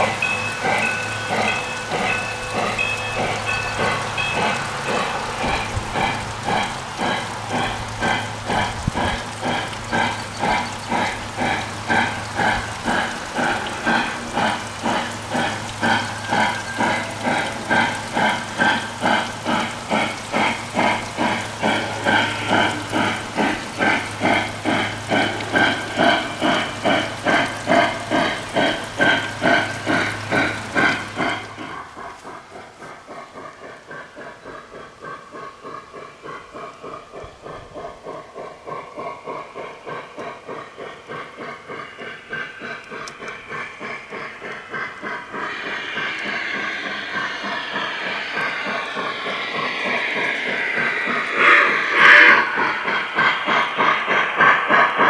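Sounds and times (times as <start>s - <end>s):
model train steam chuffing: 0.0s - 55.0s.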